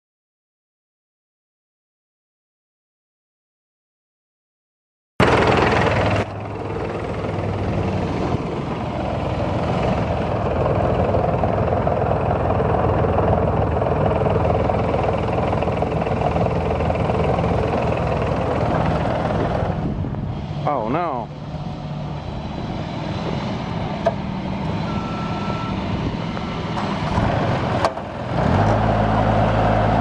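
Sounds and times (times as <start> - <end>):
diesel mower engine running: 5.2 - 30.0.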